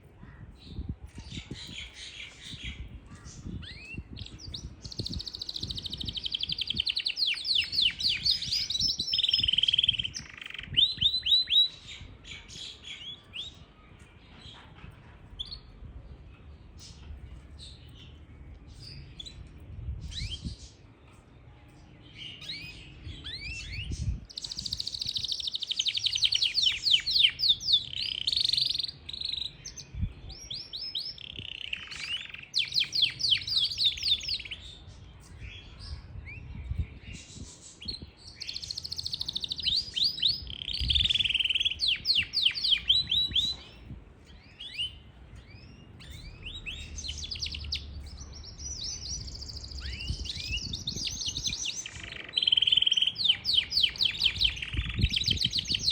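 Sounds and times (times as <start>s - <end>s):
canary singing trills: 0.4s - 20.9s, 21.8s - 55.9s.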